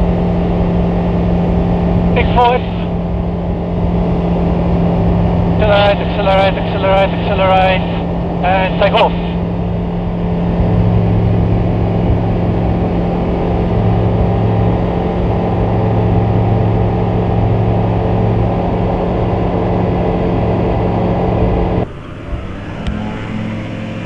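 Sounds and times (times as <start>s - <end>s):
aircraft engine and propeller drone: 0.0s - 24.0s.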